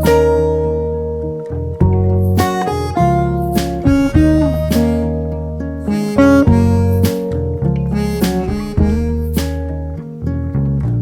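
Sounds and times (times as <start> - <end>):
harmonica-like melody: 0.0 - 10.4
acoustic guitar: 0.0 - 11.0
steady bass: 0.0 - 11.0.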